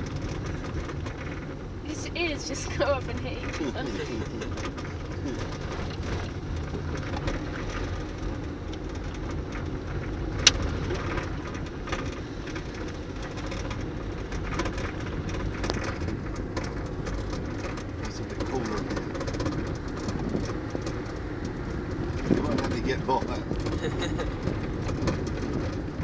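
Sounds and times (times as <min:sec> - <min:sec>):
small ticks and rattles: 0:00.0 - 0:02.2, 0:03.0 - 0:26.0
car engine and tyres rumbling: 0:00.0 - 0:26.0.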